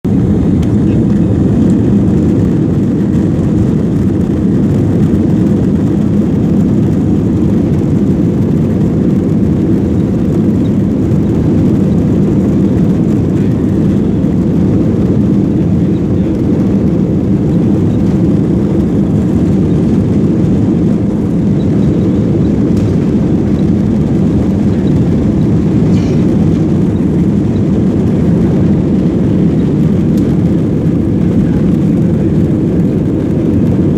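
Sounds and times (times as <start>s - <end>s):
aircraft roar: 0.0s - 33.9s.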